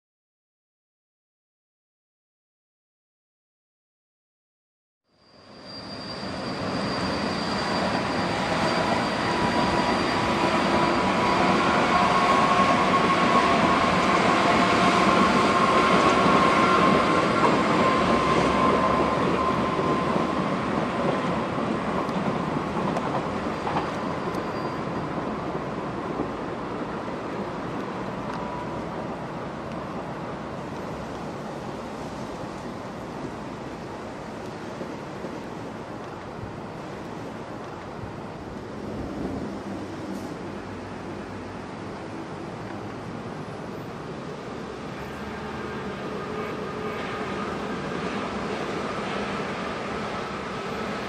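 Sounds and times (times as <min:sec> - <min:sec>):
electric trains running past: 0:05.2 - 0:51.0.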